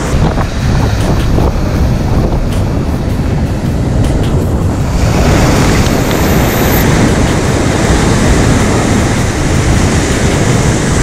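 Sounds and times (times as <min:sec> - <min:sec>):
heavy surf breaking on rocks: 0:00.0 - 0:11.0
wind buffeting microphone: 0:00.0 - 0:11.0.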